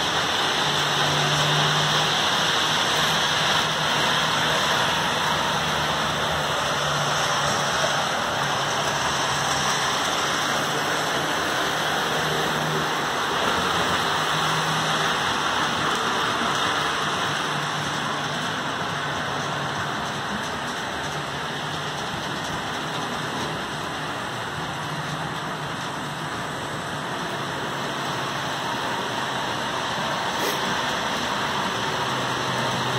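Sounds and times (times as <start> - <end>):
model train wheels rolling on track: 0.0 - 32.9.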